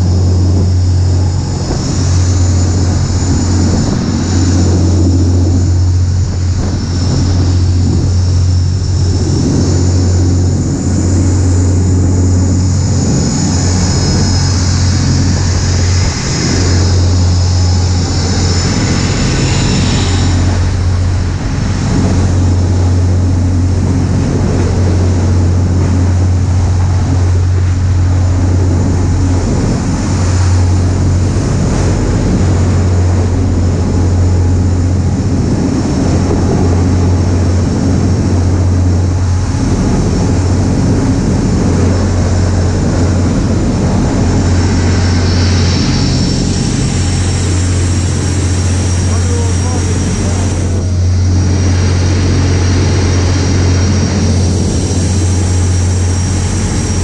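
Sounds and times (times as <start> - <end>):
boat engines droning: 0.0 - 57.0
spray from hull through waves: 0.0 - 57.0
wind hiss: 0.0 - 57.0.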